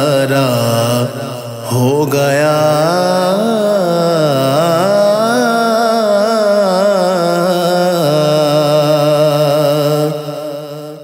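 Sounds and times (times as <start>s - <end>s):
man singing long wordless note: 0.0s - 11.0s.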